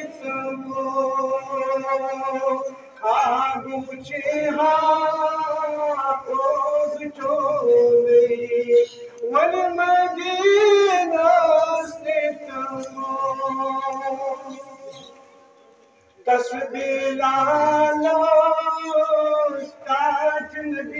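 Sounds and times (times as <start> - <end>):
man singing devotional song: 0.0 - 15.6, 16.2 - 20.9.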